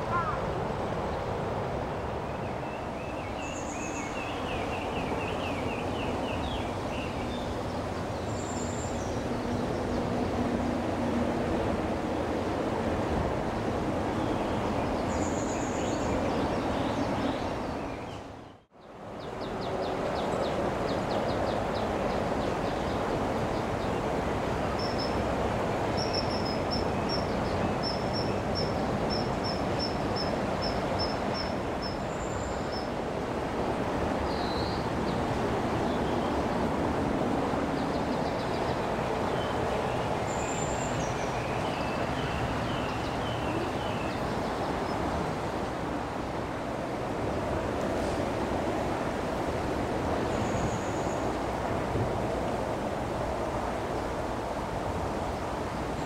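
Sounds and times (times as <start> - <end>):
heavy road traffic: 0.0 - 56.0.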